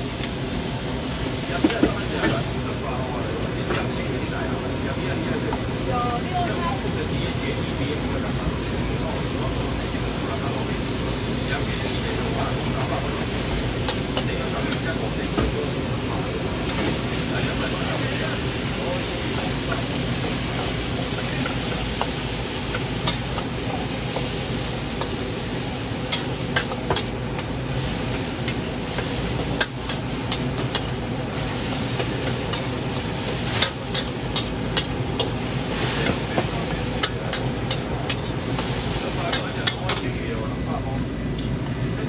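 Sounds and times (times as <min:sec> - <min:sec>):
food sizzling in a wok: 0:00.0 - 0:40.2.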